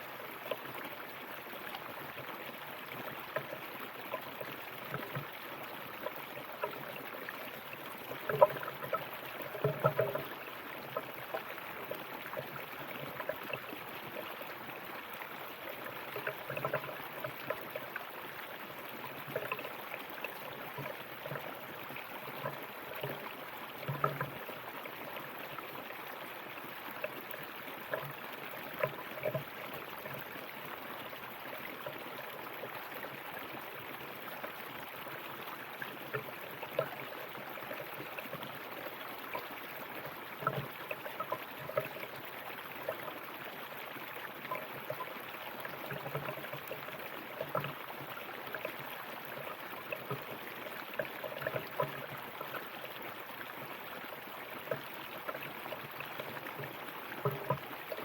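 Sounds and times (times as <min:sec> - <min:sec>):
water splashing over stones: 0:00.0 - 0:58.0.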